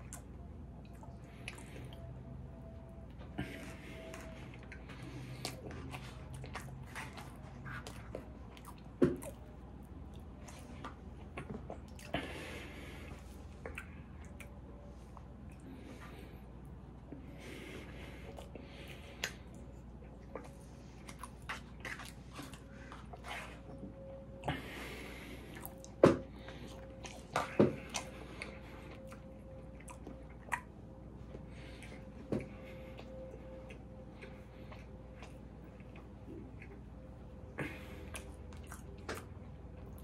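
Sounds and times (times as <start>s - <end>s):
chewing with wet mouth clicks: 0.0s - 17.3s, 17.9s - 40.0s
steady low hum: 0.0s - 40.0s.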